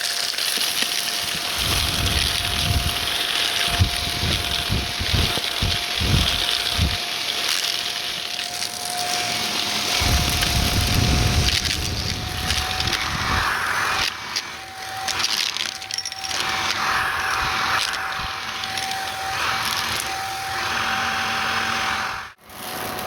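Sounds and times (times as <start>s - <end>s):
vacuum cleaner motor whine: 0.0s - 23.0s
vacuum sucking up crunchy debris: 0.0s - 23.0s.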